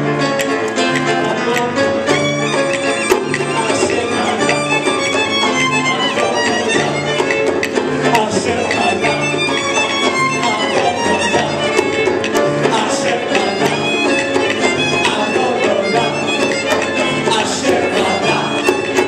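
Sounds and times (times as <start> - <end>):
salsa music with violin lead: 0.0 - 19.0.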